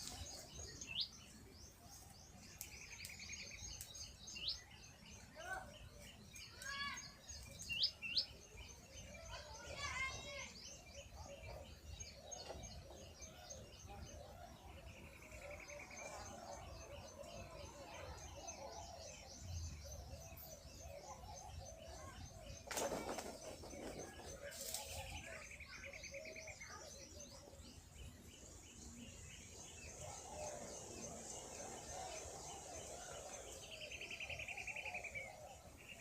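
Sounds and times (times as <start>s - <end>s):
birds chirping and twittering: 0.0s - 36.0s.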